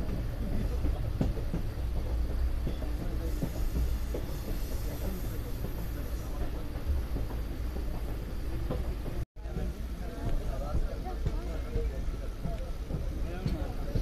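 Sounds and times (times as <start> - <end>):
train rumbling on track: 0.0 - 14.0
wheels clicking on rails: 0.0 - 14.0.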